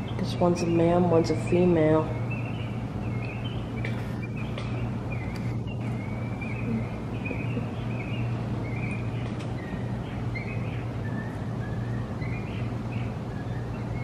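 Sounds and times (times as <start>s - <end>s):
bird chirping: 0.0s - 14.0s
steady low hum: 0.0s - 14.0s.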